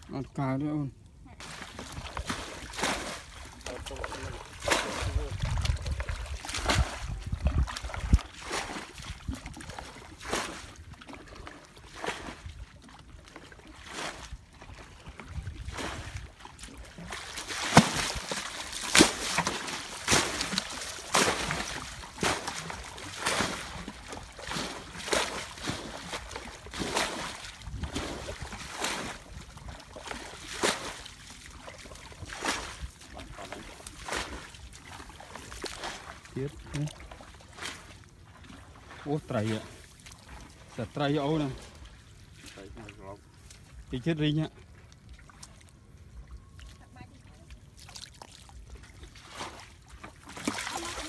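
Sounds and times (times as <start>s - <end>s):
footsteps squelching through mud: 1.4s - 51.0s.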